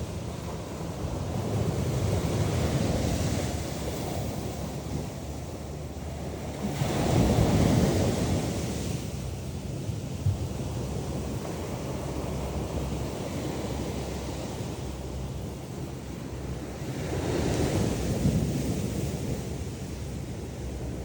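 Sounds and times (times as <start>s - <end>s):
ocean surf washing on beach: 0.0s - 21.0s
wind rumbling on microphone: 0.0s - 21.0s.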